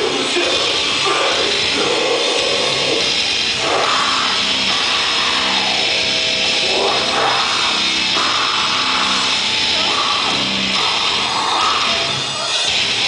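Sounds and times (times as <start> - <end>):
bass guitar: 0.0 - 13.0
distorted electric guitar: 0.0 - 13.0
drum kit: 0.0 - 13.0.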